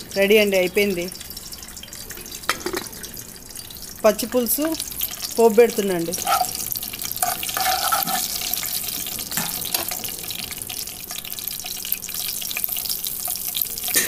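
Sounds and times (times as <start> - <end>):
seeds sizzling in hot oil: 0.0 - 14.0.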